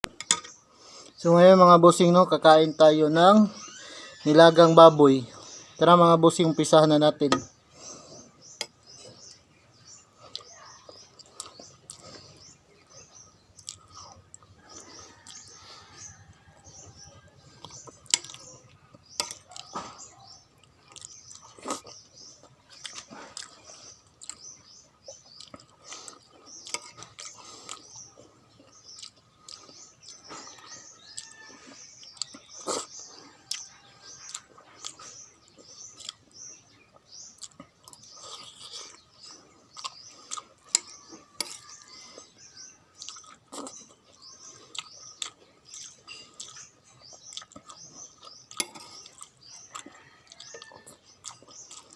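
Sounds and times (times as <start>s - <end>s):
person chewing: 7.3s - 51.9s.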